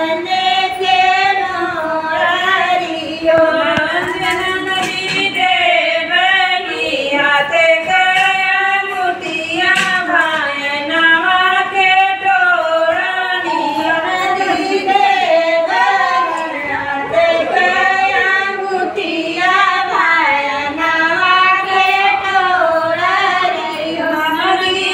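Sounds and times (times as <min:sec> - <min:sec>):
women singing devotional song: 0:00.0 - 0:24.9.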